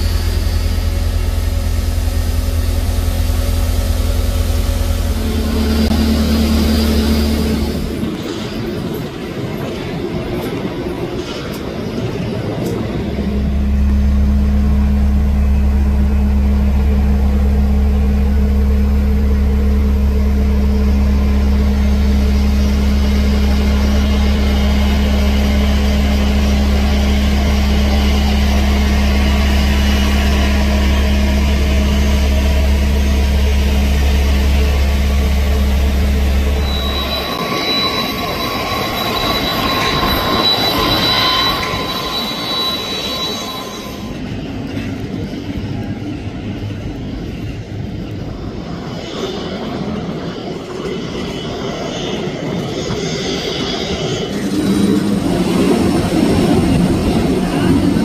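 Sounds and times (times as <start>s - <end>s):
high jet engine whine: 0.0s - 58.0s
jet engines idling: 0.0s - 58.0s.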